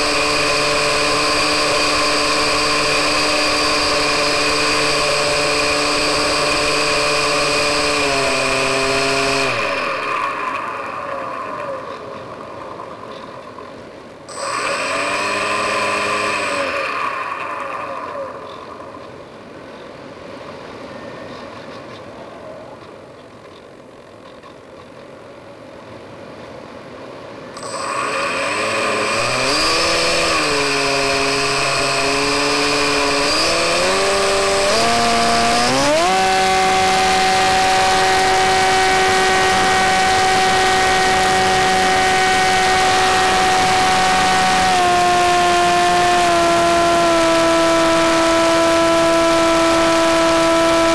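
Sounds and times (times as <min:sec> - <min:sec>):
electric motor whine: 0:00.0 - 0:19.4, 0:27.6 - 0:50.9.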